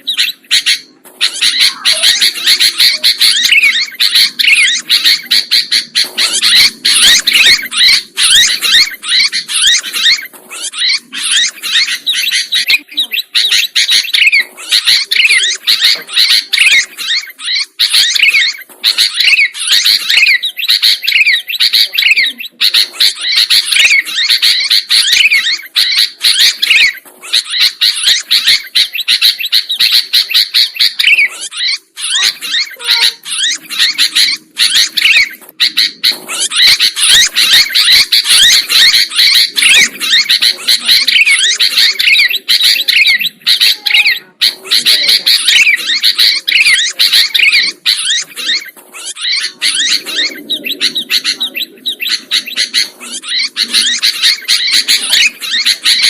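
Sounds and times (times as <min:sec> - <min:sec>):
bulbul chirping and chattering: 0:00.0 - 0:56.0.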